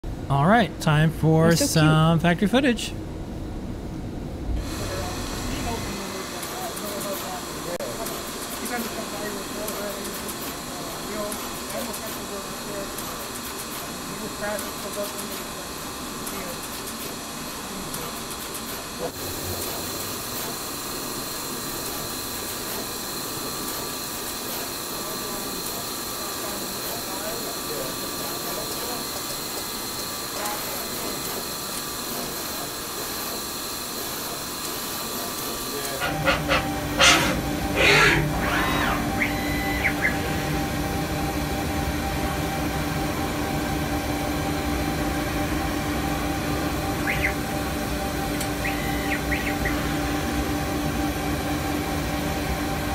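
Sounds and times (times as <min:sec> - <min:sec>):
drive motor whine: 0:03.6 - 0:52.9
machine whir and hiss: 0:04.4 - 0:52.9.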